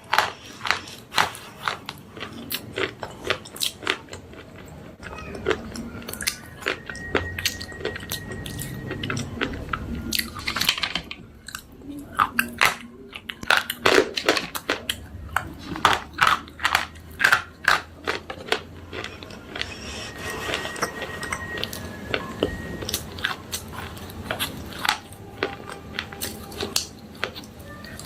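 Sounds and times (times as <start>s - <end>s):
slate pencils crunching when bitten: 0.0s - 4.7s, 5.3s - 28.0s.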